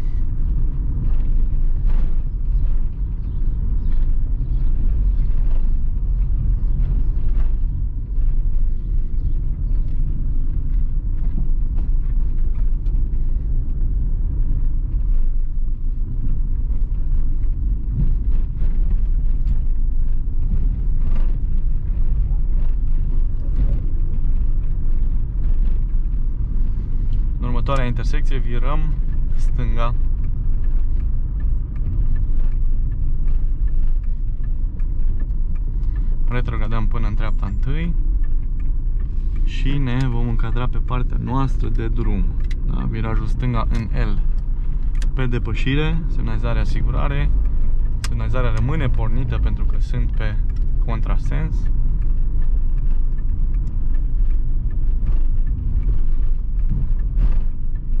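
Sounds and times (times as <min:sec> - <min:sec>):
car engine and road rumble: 0:00.0 - 0:58.0
turn signal ticking: 0:00.0 - 0:58.0.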